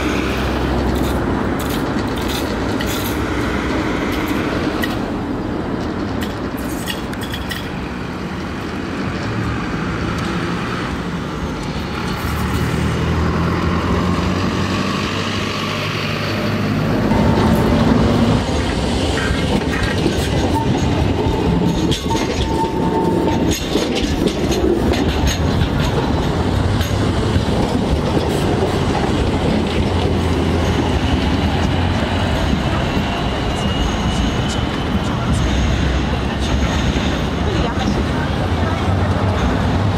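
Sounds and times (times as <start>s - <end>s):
tram wheels rumbling on rail: 0.0s - 39.9s.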